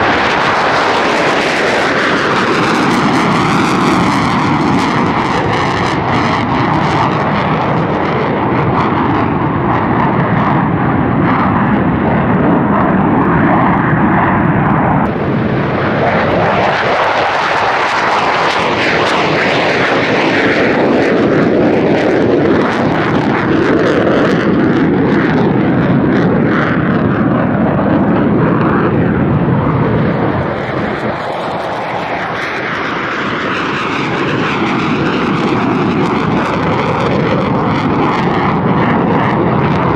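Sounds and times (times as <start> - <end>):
aircraft engine flying past: 0.0 - 39.9.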